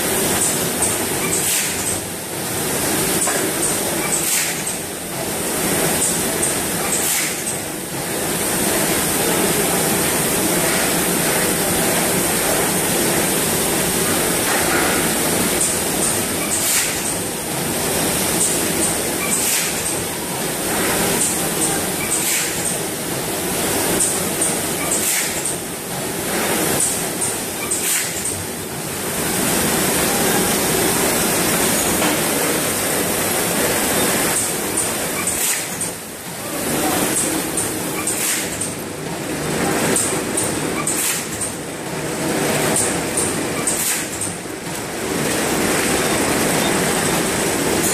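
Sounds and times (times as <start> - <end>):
packing machinery running: 0.0 - 47.9.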